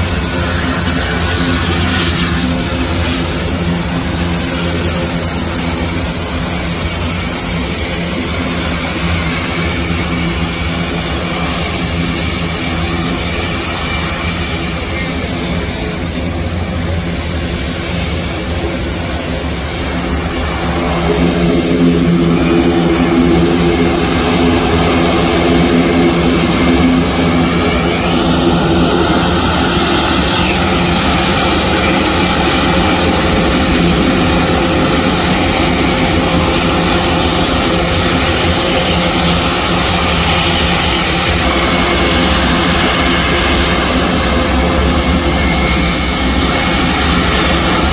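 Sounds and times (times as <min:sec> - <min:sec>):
turboprop aircraft engines droning: 0:00.0 - 0:47.9.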